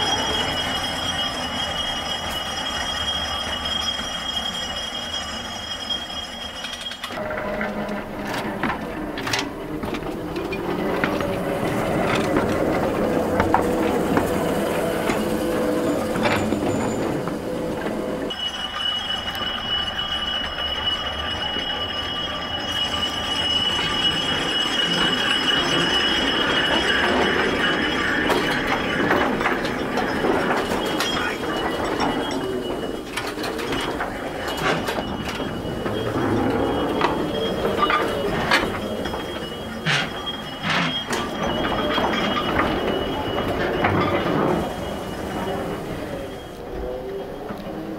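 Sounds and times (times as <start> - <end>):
miniature locomotive running: 0.0 - 47.9
thin steady whine: 0.0 - 47.9.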